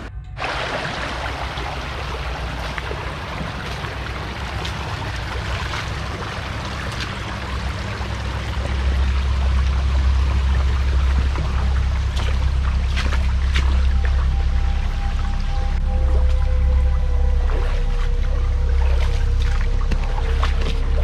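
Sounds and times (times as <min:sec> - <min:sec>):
low rumble: 0:00.0 - 0:21.0
creek trickling over rocks: 0:00.4 - 0:21.0.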